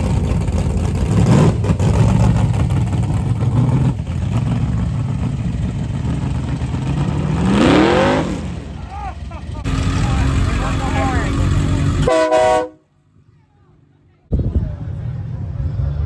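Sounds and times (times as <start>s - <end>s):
car engine rumbling and revving: 0.0s - 12.7s, 14.3s - 16.0s.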